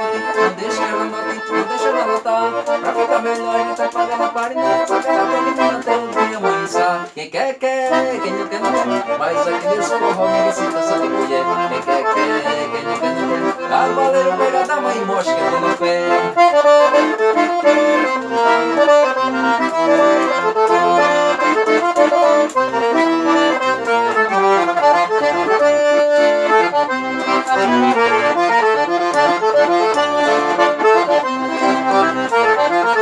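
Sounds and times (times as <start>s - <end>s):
fast accordion music: 0.0s - 33.0s.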